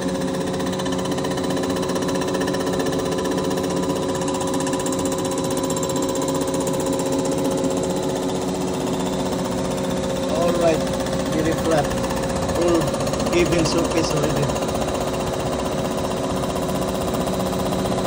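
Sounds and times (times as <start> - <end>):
milling machine cutter rattling: 0.0 - 18.0
steady whining tones: 0.0 - 18.0.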